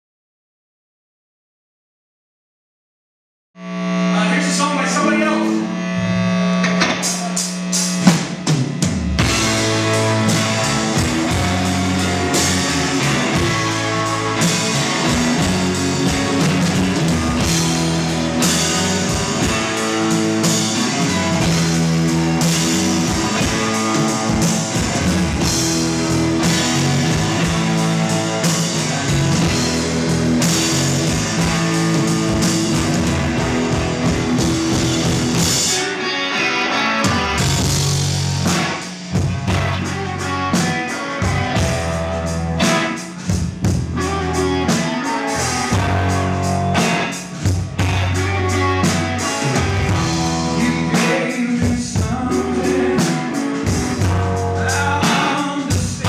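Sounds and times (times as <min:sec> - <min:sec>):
bass guitar: 0:03.6 - 0:56.0
electric guitar: 0:03.6 - 0:56.0
drum kit: 0:04.4 - 0:56.0.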